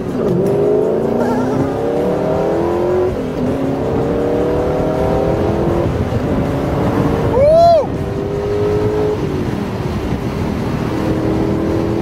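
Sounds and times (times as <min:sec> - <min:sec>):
car engine accelerating through gears: 0:00.0 - 0:12.0.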